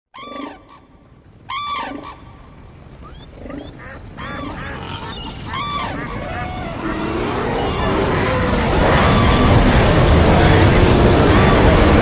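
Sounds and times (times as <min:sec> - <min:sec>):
loud animal calls: 0:00.2 - 0:12.0
stampede rumble: 0:01.0 - 0:12.0.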